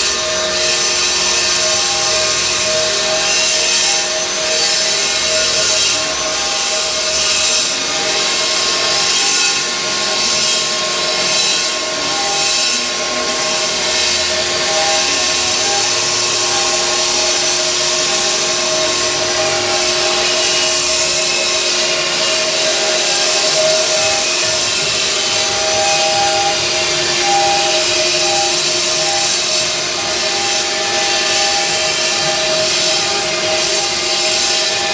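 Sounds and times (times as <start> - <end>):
router spindle whine: 0.0 - 34.9
stone grinding hiss: 0.0 - 34.9.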